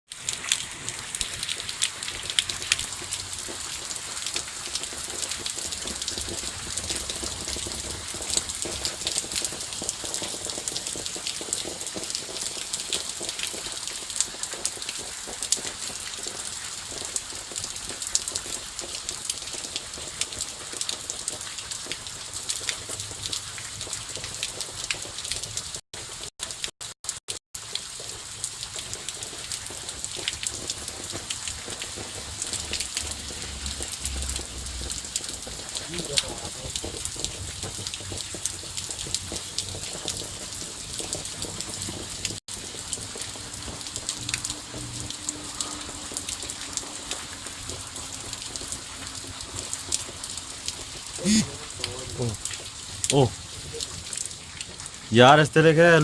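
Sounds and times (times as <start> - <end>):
steady rain with drop impacts: 0.1 - 56.0.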